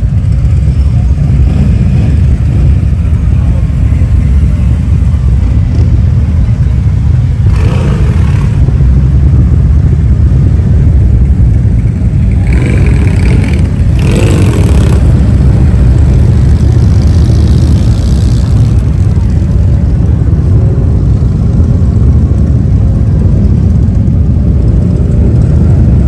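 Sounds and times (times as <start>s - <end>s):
motorcycle engines rumbling: 0.0s - 26.0s.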